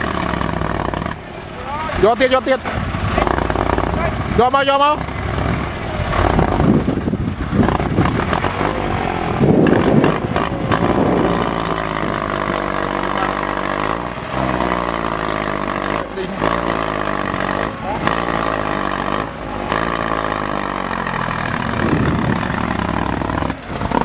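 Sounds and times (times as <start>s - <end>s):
tractor engine running under load: 0.0s - 24.0s.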